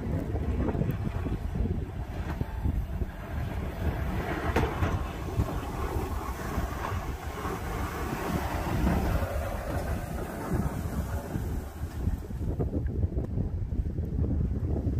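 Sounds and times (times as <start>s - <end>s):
plow blade scraping pavement: 0.0s - 12.8s.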